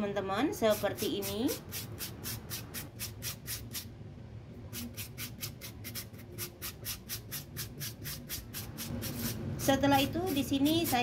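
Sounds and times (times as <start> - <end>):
potato grating on metal grater: 0.6 - 3.9, 4.7 - 11.0.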